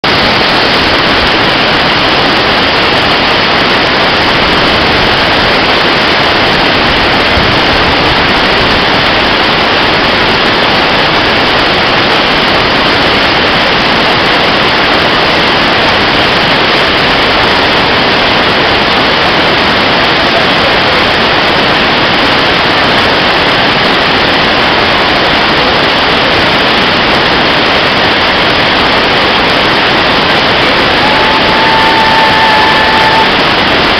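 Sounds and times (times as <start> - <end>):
water rushing: 0.0 - 33.9.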